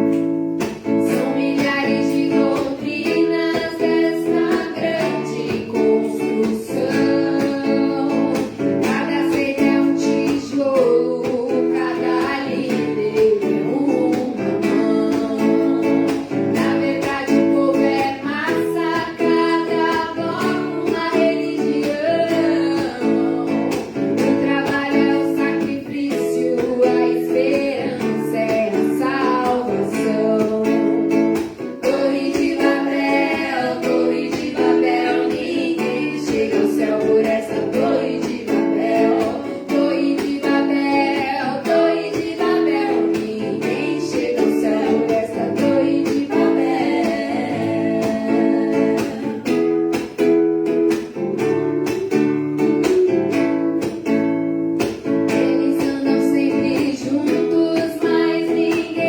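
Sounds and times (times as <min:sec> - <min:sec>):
person singing: 0:00.0 - 0:49.8, 0:55.2 - 0:59.0
acoustic guitar strumming: 0:00.0 - 0:59.0.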